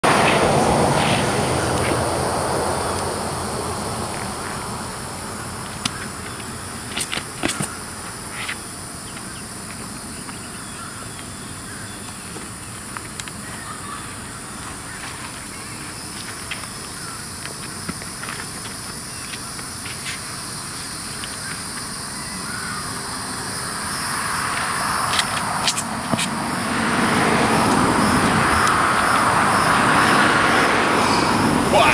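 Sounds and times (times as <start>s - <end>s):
high-pitched insect chorus: 0.1s - 31.9s.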